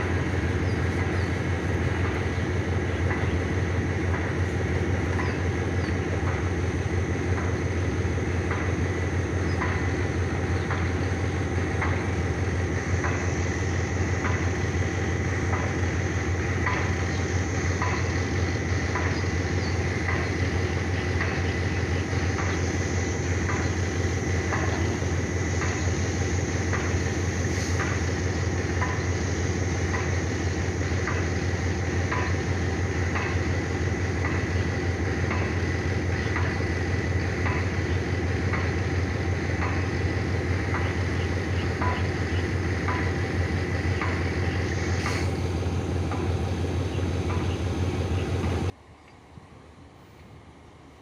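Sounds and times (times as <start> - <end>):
diesel train engine droning: 0.0 - 51.0
faint steady whine: 0.0 - 51.0.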